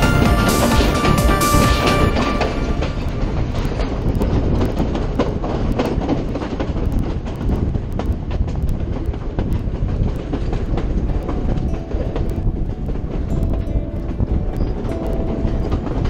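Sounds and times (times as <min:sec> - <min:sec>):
train rumbling and rushing: 0:00.0 - 0:16.0
train wheels clickety-clack: 0:00.0 - 0:16.0.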